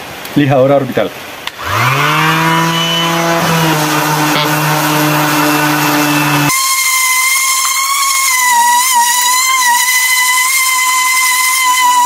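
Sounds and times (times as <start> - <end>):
orbital sander whine: 1.6 - 12.0.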